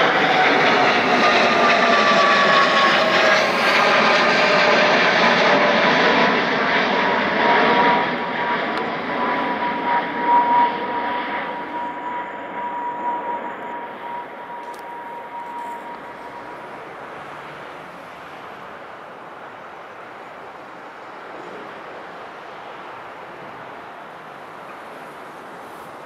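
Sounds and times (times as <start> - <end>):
jet airliner taking off: 0.0 - 26.0.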